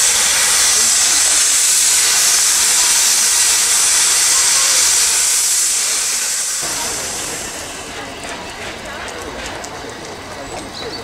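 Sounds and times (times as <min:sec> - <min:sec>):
steam safety valves hissing: 0:00.0 - 0:11.0.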